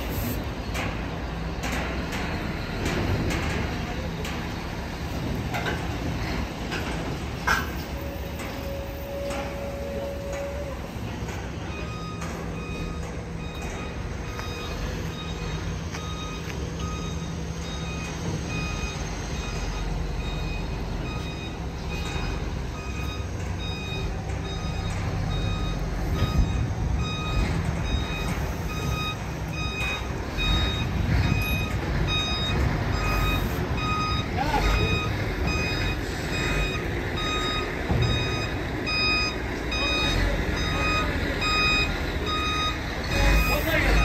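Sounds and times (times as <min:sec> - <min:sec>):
reversing alarm beeping: 0:00.0 - 0:44.0
truck diesel engine rumble: 0:00.0 - 0:44.0.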